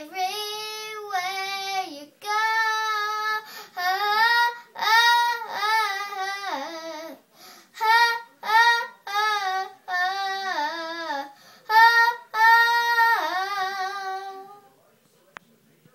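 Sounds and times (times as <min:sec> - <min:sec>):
girl singing unaccompanied: 0:00.0 - 0:14.7.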